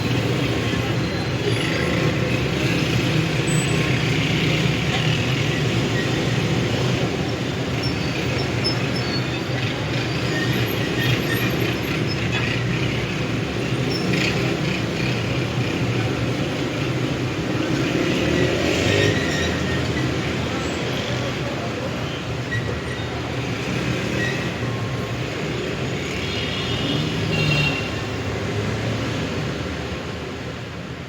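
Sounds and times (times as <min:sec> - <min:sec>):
street traffic hum: 0:00.0 - 0:31.0.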